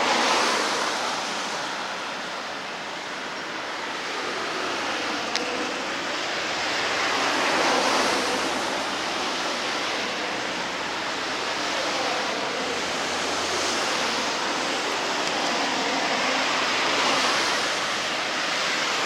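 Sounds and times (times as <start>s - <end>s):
outdoor rushing noise: 0.0s - 19.0s.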